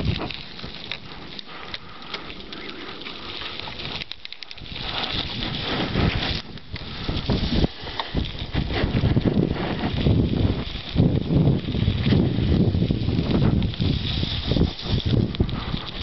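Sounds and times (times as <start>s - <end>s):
wind buffeting microphone: 0.0s - 1.2s, 3.6s - 16.0s
bike rattling and clicking: 0.0s - 16.0s
bike tyres crunching on stones: 0.0s - 16.0s.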